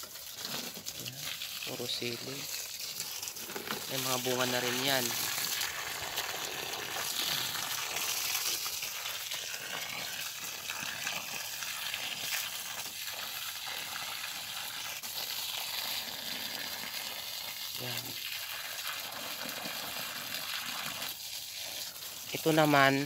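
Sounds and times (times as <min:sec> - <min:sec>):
hose water splashing on soil: 0:00.0 - 0:23.0.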